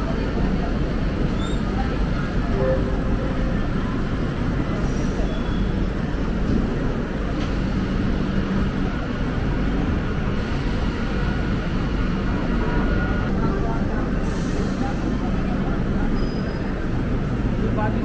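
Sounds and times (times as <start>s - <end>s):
moving train rumble: 0.0s - 18.0s.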